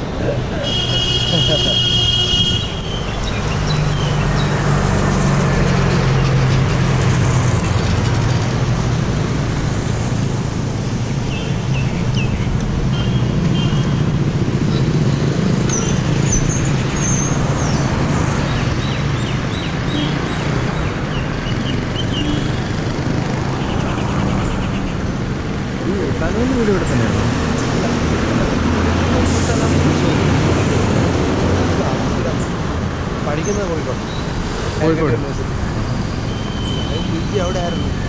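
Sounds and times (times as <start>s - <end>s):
road traffic: 0.0s - 38.0s.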